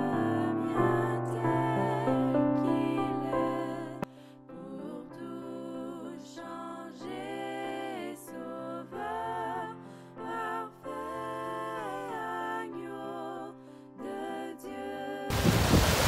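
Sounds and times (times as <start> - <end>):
slow gentle background music: 0.0 - 15.3.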